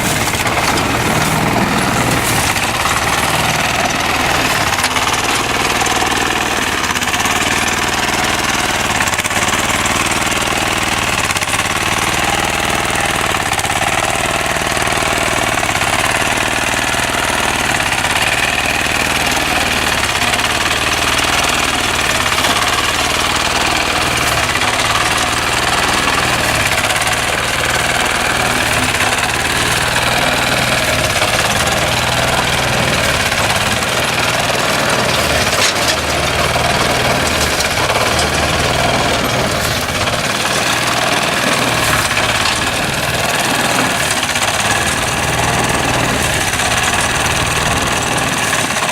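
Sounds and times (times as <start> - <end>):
engine running with knocking rattle: 0.0 - 48.9.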